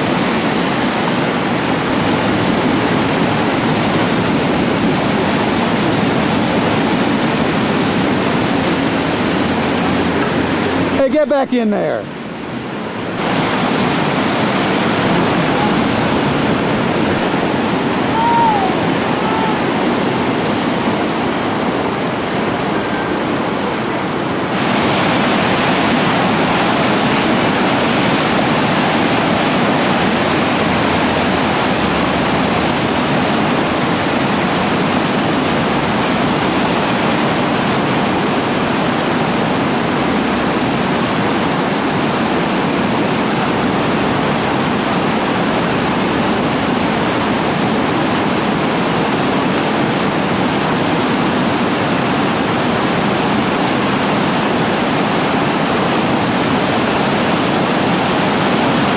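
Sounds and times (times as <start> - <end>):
whitewater rapids rushing: 0.0 - 58.9.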